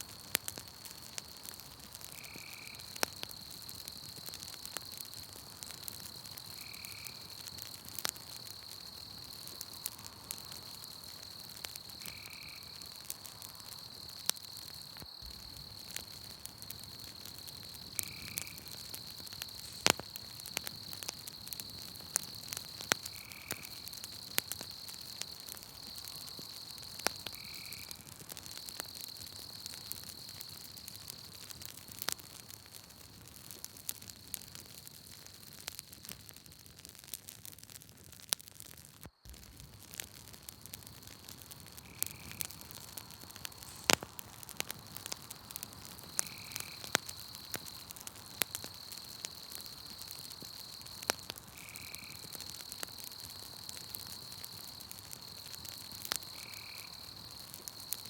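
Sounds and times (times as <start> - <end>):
campfire crackling and popping: 0.0 - 58.0
insect trill: 0.2 - 32.0, 39.1 - 58.0.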